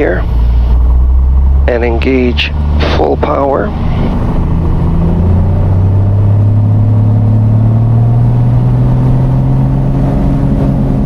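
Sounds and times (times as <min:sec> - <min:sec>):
light aircraft engine drone: 0:00.0 - 0:09.0.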